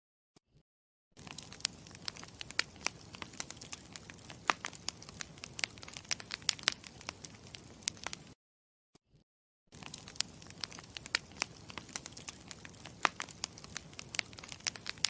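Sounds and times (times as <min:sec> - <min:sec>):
campfire crackling: 0:01.2 - 0:08.4, 0:09.8 - 0:15.0.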